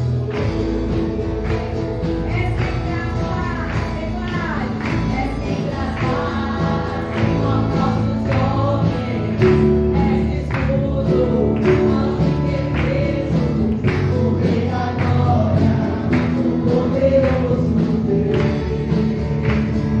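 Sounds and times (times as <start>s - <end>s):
band playing: 0.0s - 20.0s
drum beat: 0.4s - 20.0s
group singing worship song: 1.4s - 20.0s.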